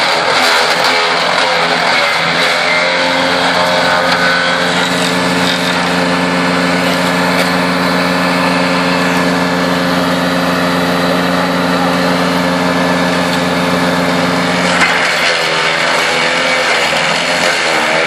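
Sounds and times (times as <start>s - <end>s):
wood chipper engine running: 0.0s - 18.0s.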